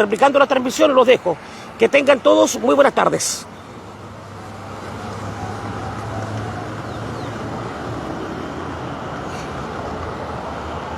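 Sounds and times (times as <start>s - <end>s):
road traffic rumble: 0.0s - 10.9s.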